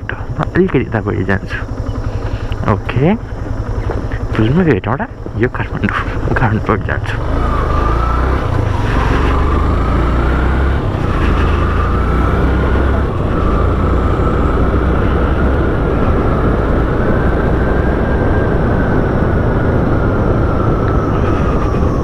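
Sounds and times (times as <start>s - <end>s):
low road rumble: 0.0s - 22.0s
vehicle high whine: 0.0s - 22.0s.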